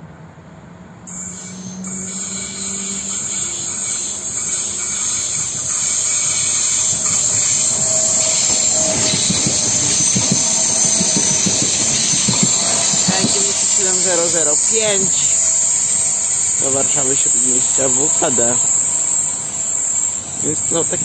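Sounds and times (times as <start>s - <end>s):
electric train passing: 0.0s - 21.0s
wheels clattering over rail joints: 1.8s - 21.0s.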